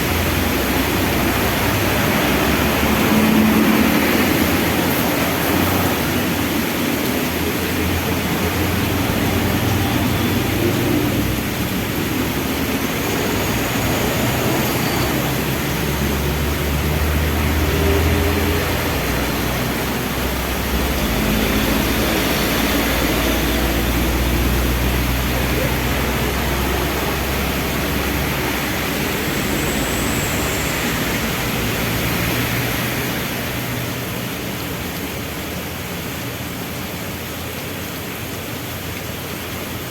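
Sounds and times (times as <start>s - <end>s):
heavy rain falling: 0.0s - 39.9s
traffic engines humming: 0.0s - 39.9s.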